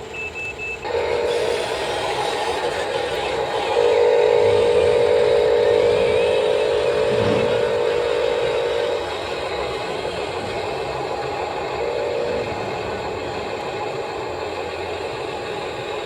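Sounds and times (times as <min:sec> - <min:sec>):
mechanical hiss and rattle: 0:00.0 - 0:16.0
hydraulic pump whining: 0:00.8 - 0:16.0.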